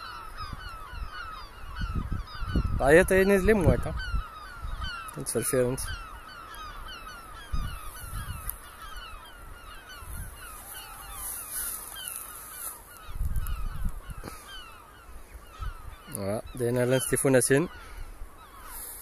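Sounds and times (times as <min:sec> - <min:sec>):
gulls calling: 0:00.0 - 0:19.0
wind buffeting the microphone: 0:00.0 - 0:19.0.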